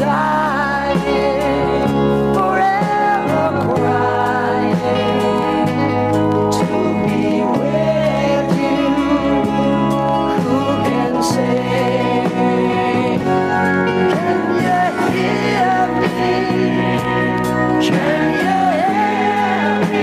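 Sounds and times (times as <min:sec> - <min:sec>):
man singing: 0:00.0 - 0:05.8, 0:06.5 - 0:20.0
rock ballad band chords: 0:00.0 - 0:20.0.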